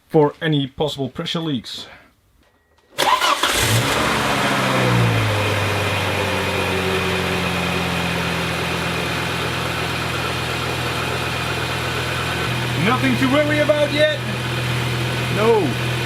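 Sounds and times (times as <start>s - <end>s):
car engine starting and idling: 3.0s - 16.0s.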